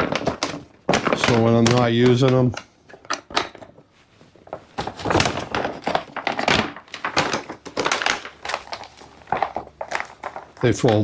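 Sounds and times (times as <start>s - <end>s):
plastic container folding: 0.0s - 11.0s.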